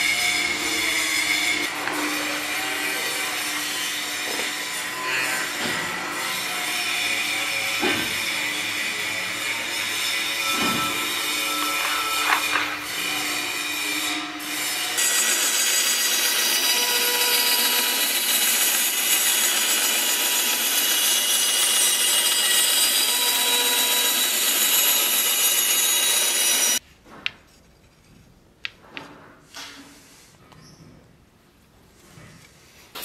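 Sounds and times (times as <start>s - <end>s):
bandsaw cutting wood: 0.0s - 26.8s.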